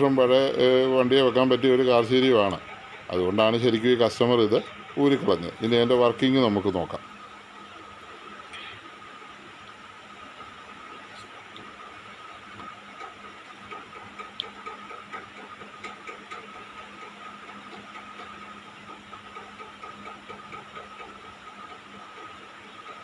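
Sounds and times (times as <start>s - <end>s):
constant high whine: 0.0s - 19.4s.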